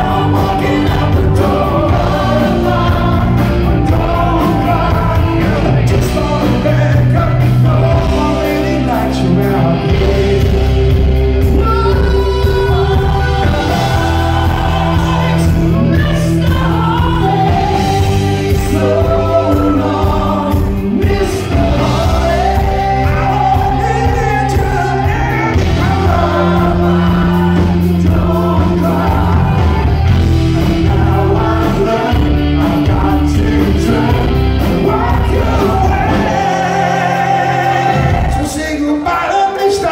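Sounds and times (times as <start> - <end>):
backing vocal harmonies: 0.0 - 39.9
lead singer singing: 0.0 - 39.9
rock band playing live: 0.0 - 39.9.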